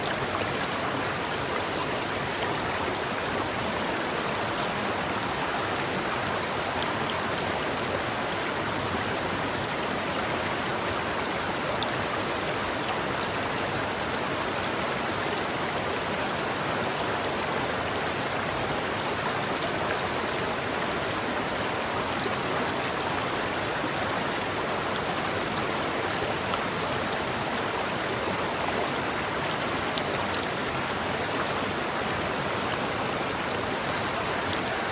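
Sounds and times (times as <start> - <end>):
river water flowing over rocks: 0.0 - 34.9.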